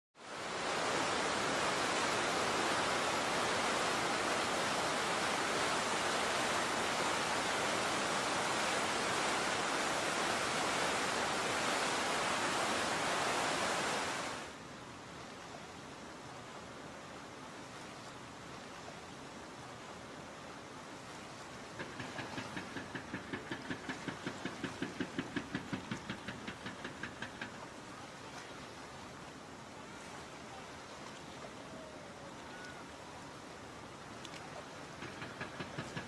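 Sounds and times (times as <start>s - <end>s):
river water flowing: 0.2s - 36.0s
whitewater rushing over a dam: 0.3s - 36.0s.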